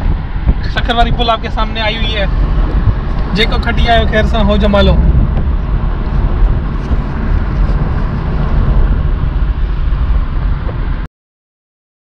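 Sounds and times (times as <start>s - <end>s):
wind and road noise in a car: 0.0s - 11.1s.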